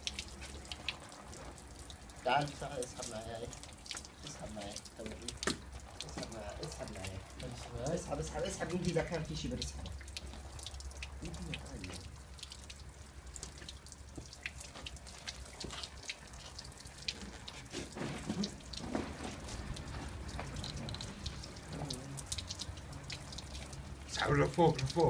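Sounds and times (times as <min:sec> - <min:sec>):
water dripping and splashing: 0:00.0 - 0:25.0.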